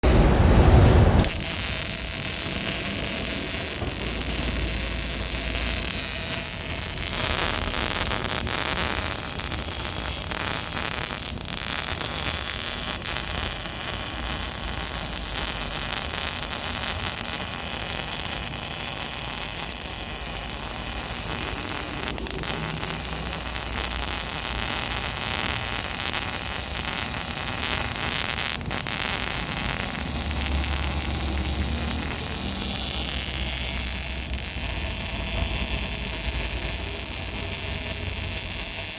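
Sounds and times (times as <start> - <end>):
welding arc crackling hiss: 1.2 - 38.9.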